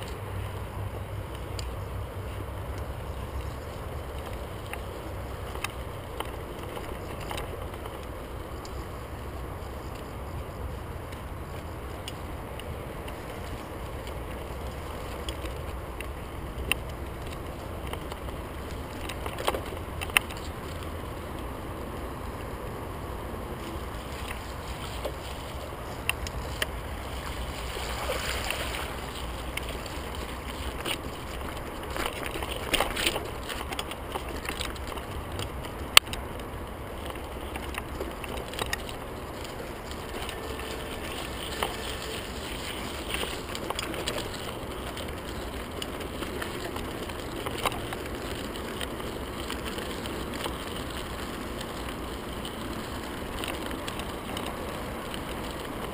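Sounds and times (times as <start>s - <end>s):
bike frame rattling over bumps: 0.0s - 55.9s
wind rumbling on microphone: 0.0s - 55.9s
tyres splashing through puddles: 11.0s - 55.9s.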